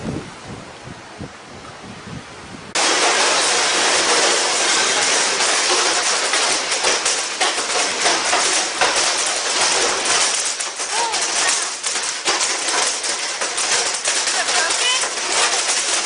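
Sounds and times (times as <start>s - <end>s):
hail rattling on house: 2.8s - 16.0s.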